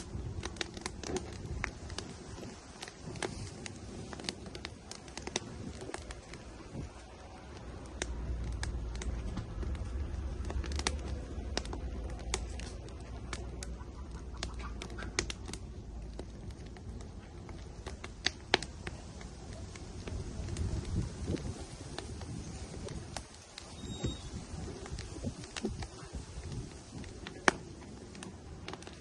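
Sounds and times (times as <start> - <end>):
low rumble: 0.0 - 29.0
wood fire crackling and popping: 0.0 - 29.0.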